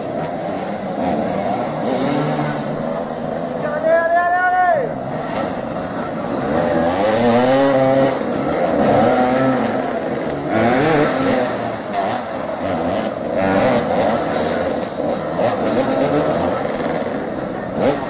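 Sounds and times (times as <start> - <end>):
dirt bikes revving: 0.0 - 18.0.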